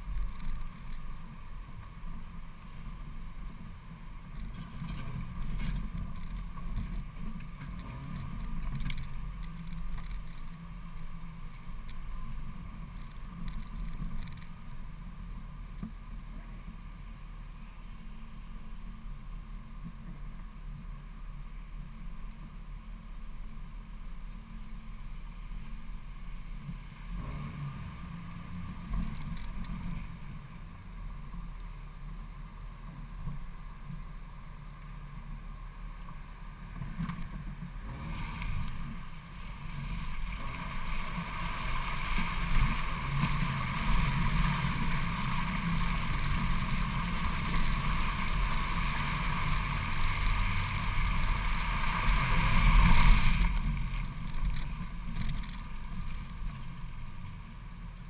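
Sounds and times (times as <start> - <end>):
car engine running: 0.0 - 58.0
river water splashing against car: 0.0 - 58.0.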